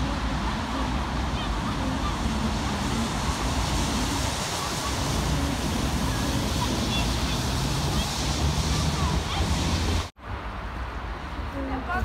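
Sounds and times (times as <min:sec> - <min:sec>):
road traffic noise: 0:00.0 - 0:12.0
trolleybus driving past: 0:00.0 - 0:12.0.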